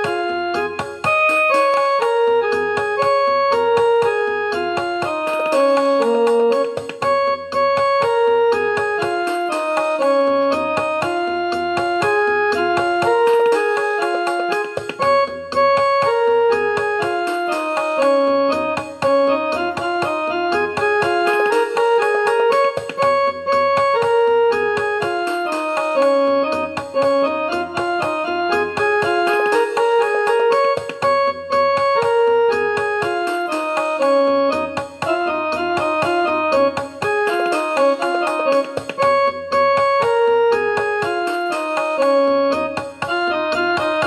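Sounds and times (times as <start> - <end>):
piano playing raga: 0.0 - 44.0.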